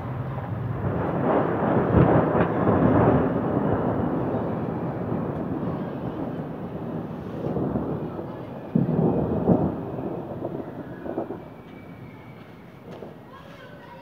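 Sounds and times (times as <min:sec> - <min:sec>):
thunder rolling: 0:00.0 - 0:14.0.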